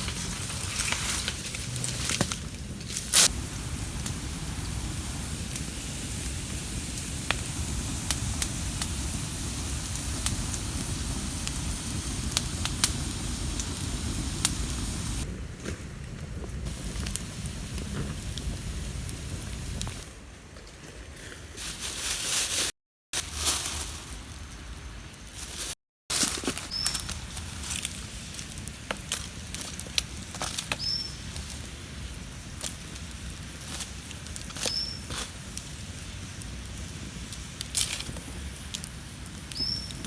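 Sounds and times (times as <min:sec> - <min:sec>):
fire crackling pops: 0:00.0 - 0:20.0, 0:26.1 - 0:40.0
campfire burning: 0:00.0 - 0:20.1, 0:26.1 - 0:40.0.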